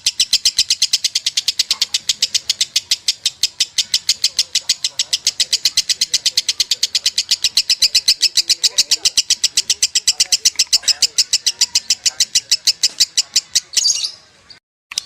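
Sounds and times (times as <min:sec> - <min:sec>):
lovebird chattering song: 0:00.0 - 0:15.0.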